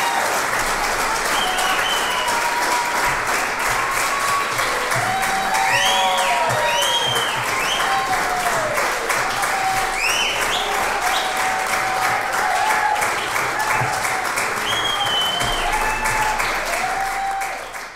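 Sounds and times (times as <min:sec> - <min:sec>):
audience applauding: 0:00.0 - 0:17.9
people cheering: 0:00.0 - 0:17.9.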